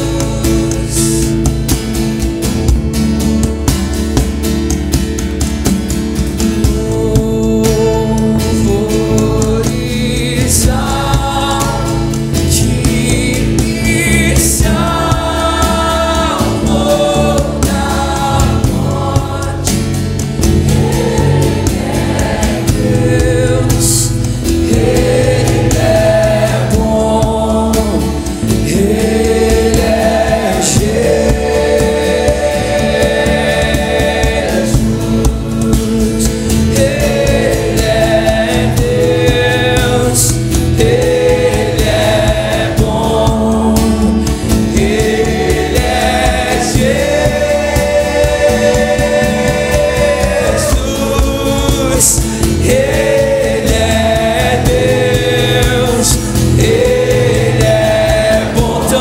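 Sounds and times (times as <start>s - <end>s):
group singing a worship song: 0.0s - 2.9s, 3.7s - 59.0s
acoustic guitars: 0.0s - 59.0s.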